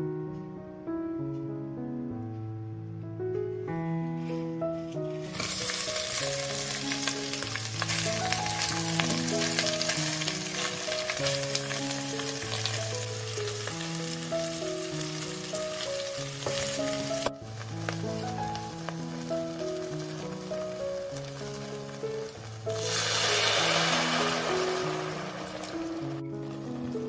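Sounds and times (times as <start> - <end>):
background music: 0.0 - 27.0
prawn shells sizzling in oil: 4.9 - 27.0.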